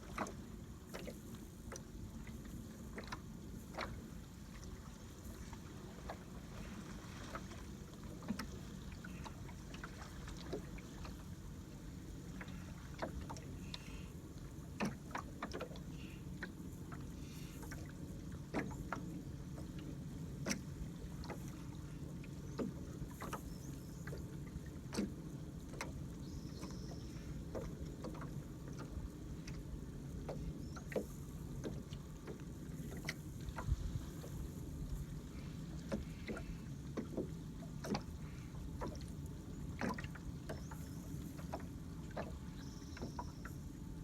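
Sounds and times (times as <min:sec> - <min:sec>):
water lapping against boat hull: 0:00.0 - 0:44.0.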